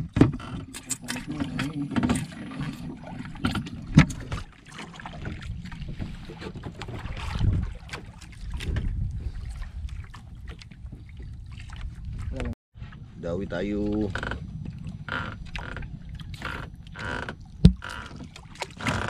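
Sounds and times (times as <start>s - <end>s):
knocks and clatter on boat: 0.0s - 19.0s
wind buffeting microphone: 1.3s - 17.8s.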